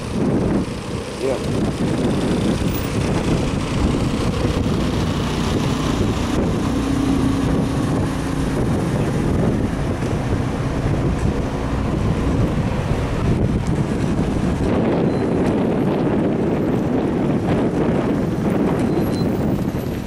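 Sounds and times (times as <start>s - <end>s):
car engine: 0.0s - 20.0s
road rumble: 0.0s - 20.0s
wind noise on microphone: 0.0s - 20.0s.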